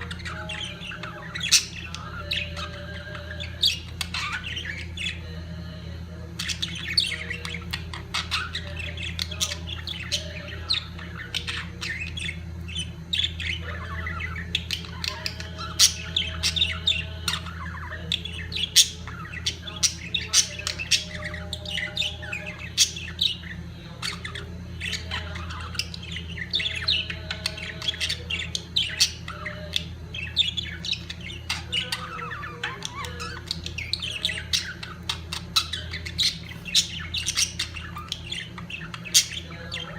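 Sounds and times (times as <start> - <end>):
budgerigars chattering and squawking: 0.0 - 39.9
steady low hum: 0.0 - 39.9.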